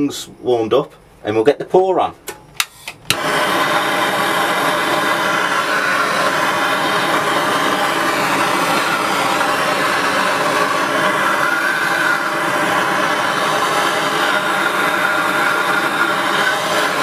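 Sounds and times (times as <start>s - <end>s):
gas torch burning: 2.6s - 17.0s.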